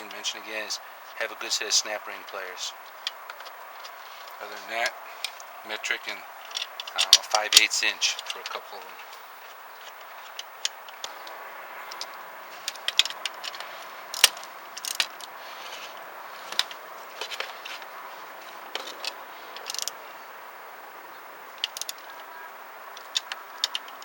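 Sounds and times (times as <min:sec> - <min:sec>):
steady background hiss: 0:00.0 - 0:24.0
hand tools clicking and clinking: 0:02.2 - 0:20.0, 0:21.6 - 0:22.0, 0:22.9 - 0:24.0.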